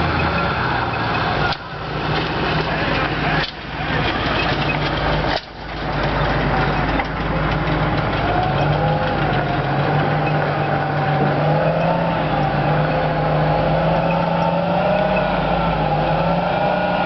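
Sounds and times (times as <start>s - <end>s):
tracked vehicle engine running: 0.0s - 17.0s.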